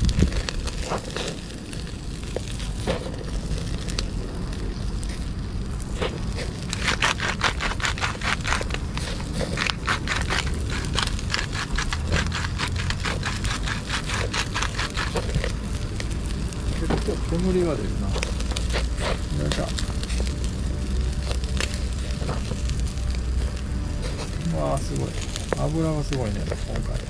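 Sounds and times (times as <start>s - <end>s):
charcoal crackling and popping: 0.0s - 27.0s
low rumble of fire: 0.0s - 27.0s.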